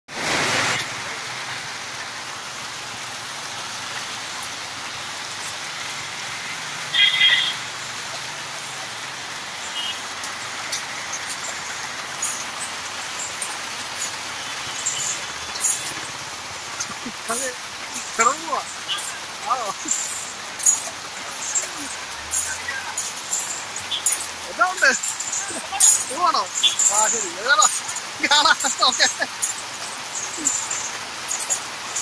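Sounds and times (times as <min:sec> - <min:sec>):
rain on wet street: 0:00.1 - 0:32.0.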